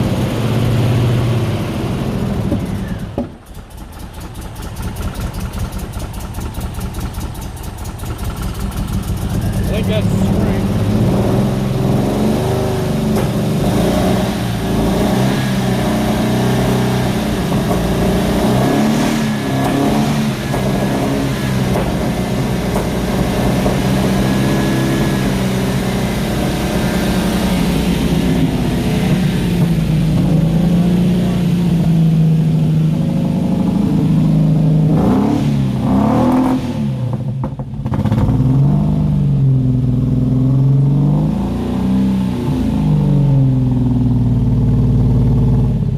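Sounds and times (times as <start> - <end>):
car engine idling and revving: 0.0 - 45.9.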